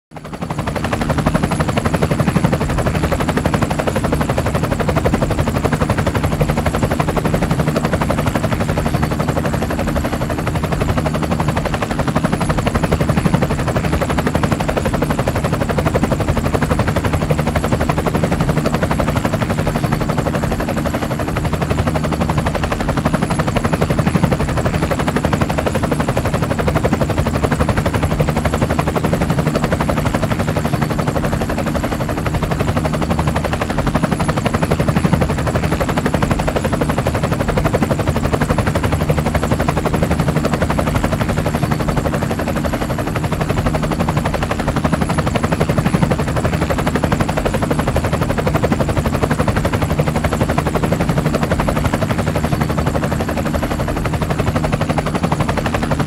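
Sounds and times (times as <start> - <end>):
helicopter rotor chop: 0.1 - 56.0.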